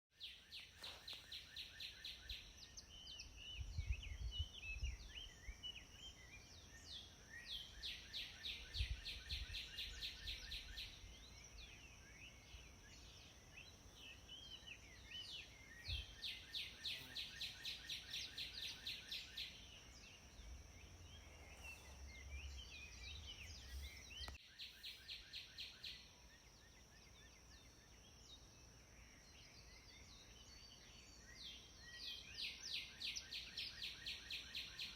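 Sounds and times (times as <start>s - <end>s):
birds singing: 0.2s - 34.9s.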